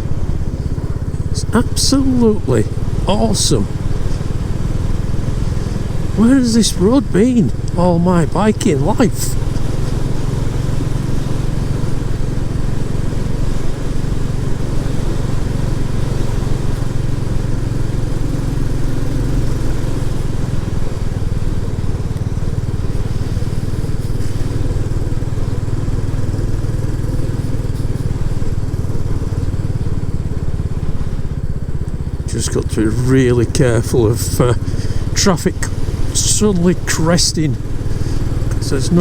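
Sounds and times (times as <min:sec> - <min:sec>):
motorcycle engine running: 0:00.0 - 0:39.0
riding wind noise: 0:00.0 - 0:39.0.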